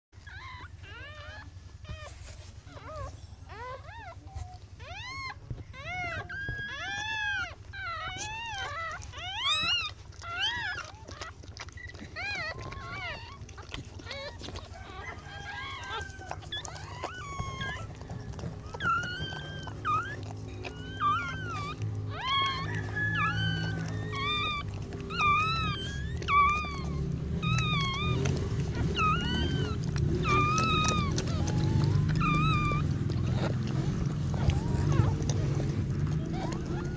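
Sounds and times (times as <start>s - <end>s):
puppies whining and squealing: 0.2s - 36.9s.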